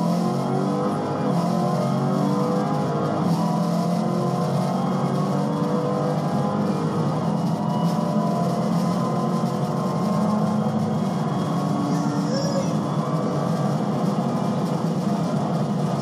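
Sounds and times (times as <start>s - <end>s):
car engine droning: 0.0s - 16.0s
road and wind noise: 0.0s - 16.0s.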